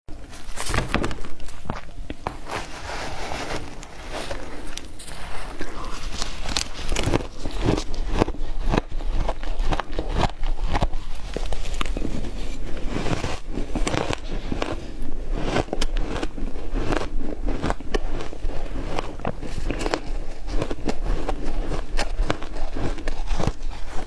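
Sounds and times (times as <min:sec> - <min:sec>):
ice being chewed: 0:01.4 - 0:24.0.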